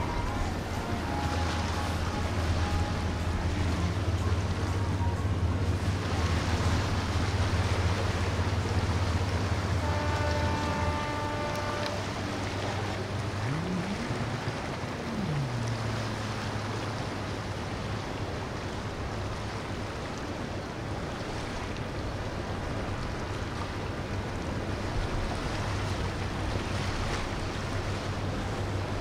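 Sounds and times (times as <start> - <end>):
boat engine running: 0.0 - 29.0
rush of water and wind: 0.0 - 29.0.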